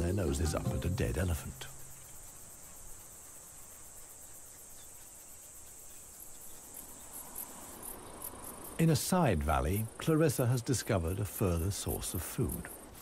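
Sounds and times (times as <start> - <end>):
insects chirring: 0.0 - 13.0
light desert ambience hiss: 0.0 - 13.0.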